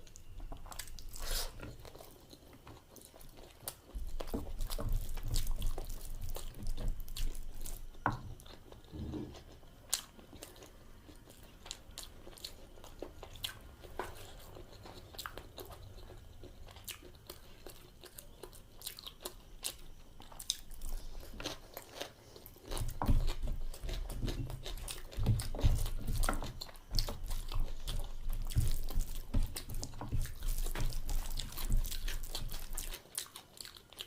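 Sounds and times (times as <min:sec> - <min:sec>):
low chewing thuds: 0:00.0 - 0:34.0
person chewing food: 0:00.0 - 0:34.0.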